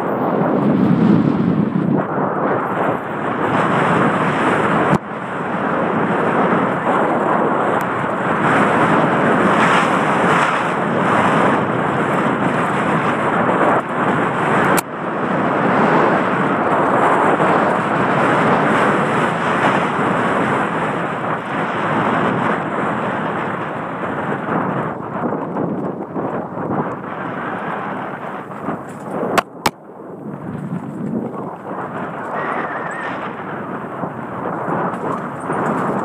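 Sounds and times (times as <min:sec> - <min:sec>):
bike trail rumble: 0:00.0 - 0:36.0
wind rushing on microphone: 0:00.0 - 0:36.0.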